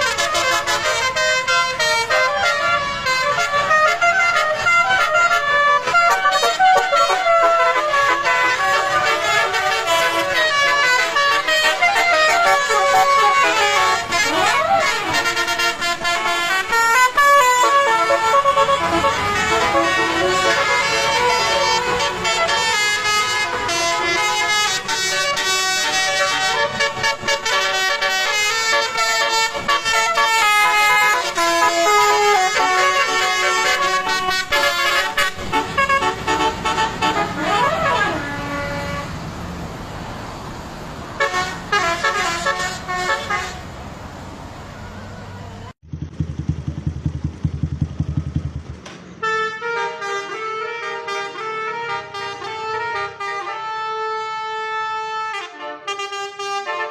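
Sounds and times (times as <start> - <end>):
multi-tone air horns playing a tune: 0.0 - 39.2, 41.2 - 43.6, 49.2 - 56.9
bus engine: 0.0 - 56.9.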